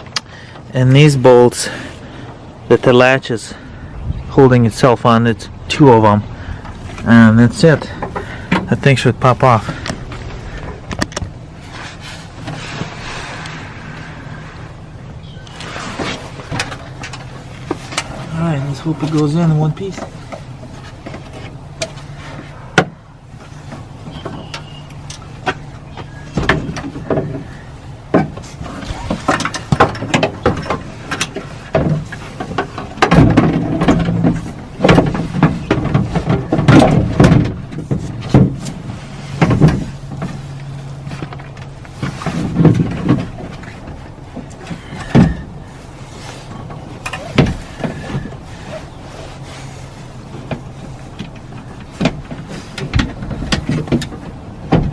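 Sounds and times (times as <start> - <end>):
steady low hum: 0.0 - 54.9
metal and plastic knocks and scrapes: 6.6 - 13.4, 15.4 - 54.9.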